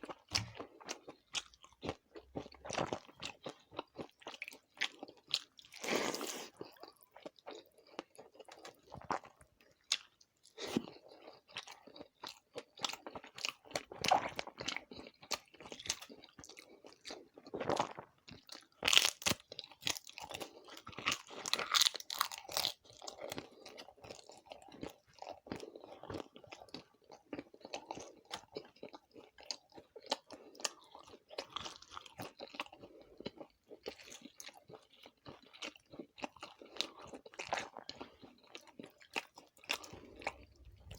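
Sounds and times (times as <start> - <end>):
crunching of fried food: 0.0 - 40.9
wet chewing: 0.0 - 40.9.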